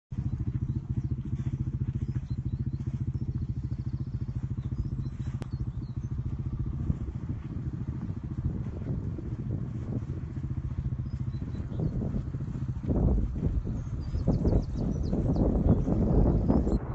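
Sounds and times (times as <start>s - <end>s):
engine idling: 0.1s - 16.9s.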